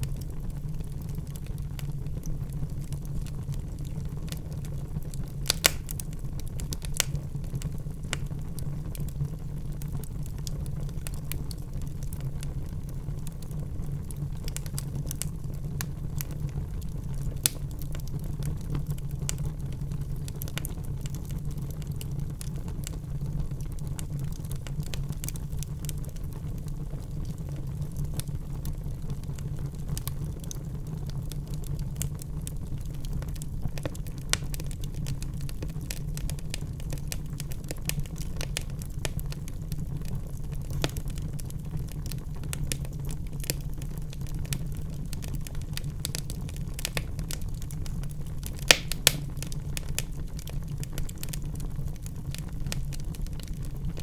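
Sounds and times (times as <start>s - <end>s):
low rumble of flames: 0.0s - 54.0s
sharp snaps of fire: 0.0s - 54.0s
wood fire crackling and popping: 0.0s - 54.0s.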